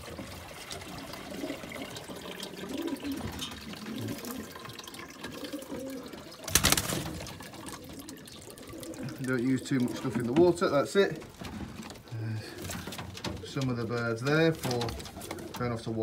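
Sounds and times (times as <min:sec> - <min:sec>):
water pouring into plastic container: 0:00.0 - 0:16.0.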